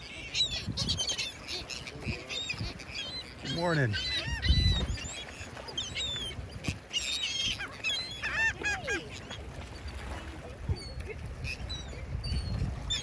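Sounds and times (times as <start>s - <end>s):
gulls squawking: 0.0s - 13.0s.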